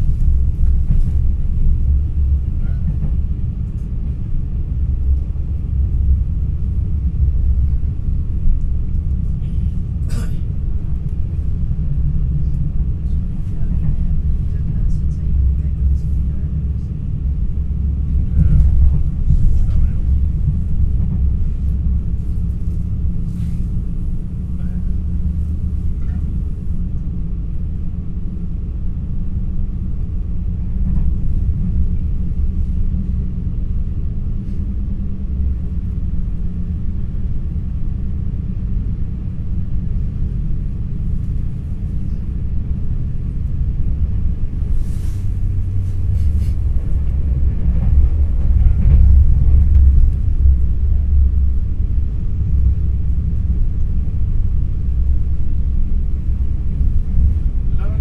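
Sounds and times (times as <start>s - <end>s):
electric train rumbling: 0.0s - 58.0s.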